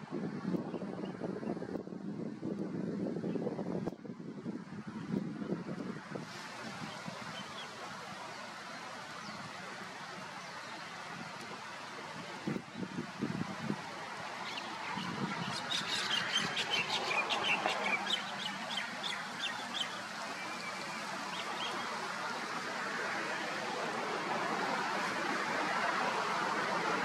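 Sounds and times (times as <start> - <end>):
steady noisy background: 0.0 - 27.0.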